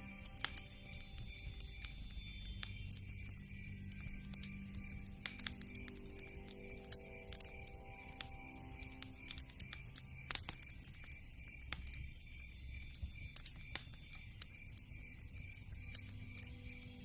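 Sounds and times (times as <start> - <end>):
campfire crackling and popping: 0.0 - 17.0
night insects chirping: 0.0 - 17.0.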